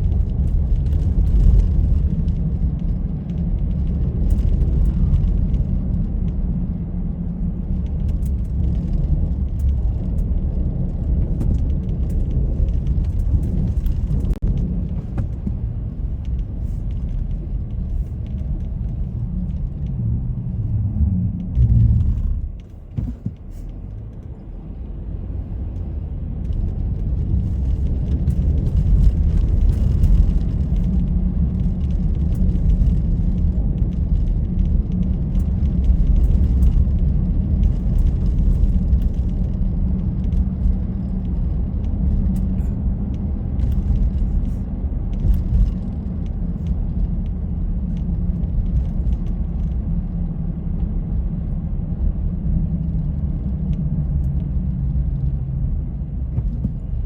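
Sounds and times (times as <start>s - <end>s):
car driving rumble: 0.0s - 57.0s.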